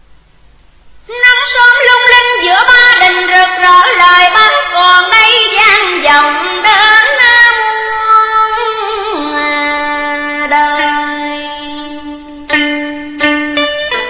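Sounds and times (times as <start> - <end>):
woman singing with vibrato: 1.1 - 14.0.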